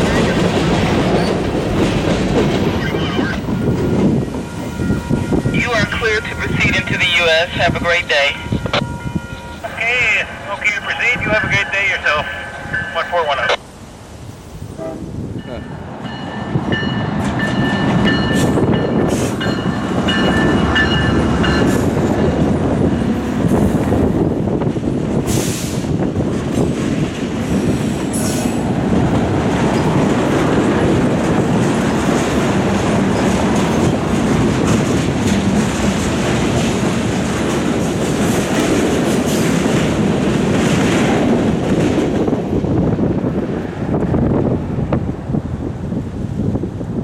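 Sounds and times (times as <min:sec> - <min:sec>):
diesel locomotives passing: 0:00.0 - 0:47.0
steel wheels rumbling on rails: 0:00.0 - 0:47.0.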